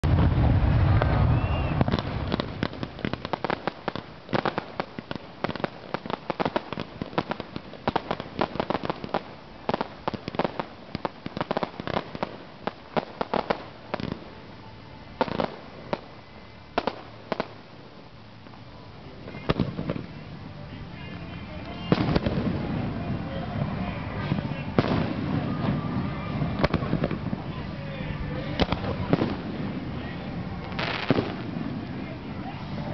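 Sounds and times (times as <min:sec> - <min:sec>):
fireworks cracking and popping: 0:00.0 - 0:32.9
loud firework reports: 0:00.0 - 0:32.9.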